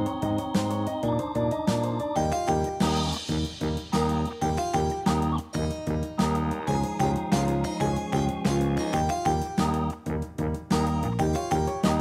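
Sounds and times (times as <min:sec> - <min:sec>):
bright background music: 0:00.0 - 0:12.0.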